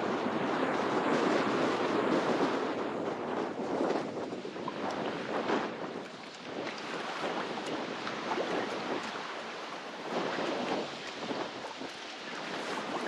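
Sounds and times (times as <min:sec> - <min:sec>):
choppy water splashing: 0:00.0 - 0:13.0
wind gusting across microphone: 0:00.0 - 0:13.0.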